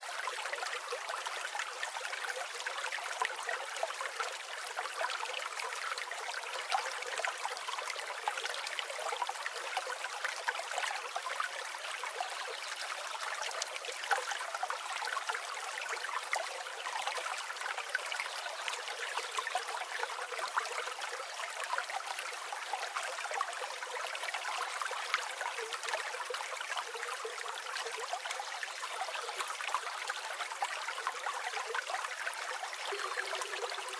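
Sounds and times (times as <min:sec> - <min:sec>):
creek babbling over stones: 0:00.0 - 0:33.9.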